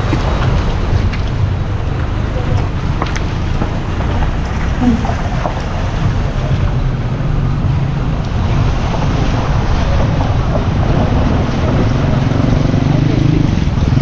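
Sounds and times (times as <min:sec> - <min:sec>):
heavy low rumble: 0:00.0 - 0:14.0
wind buffeting microphone: 0:00.0 - 0:14.0.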